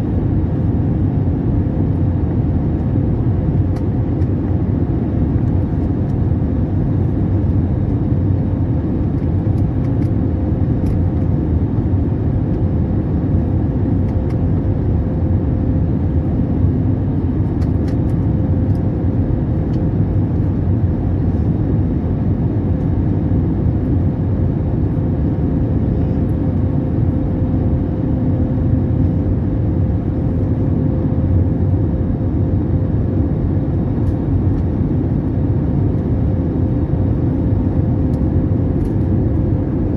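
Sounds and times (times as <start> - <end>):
airliner cabin rumble: 0.0 - 39.9
faint hum: 0.0 - 39.9.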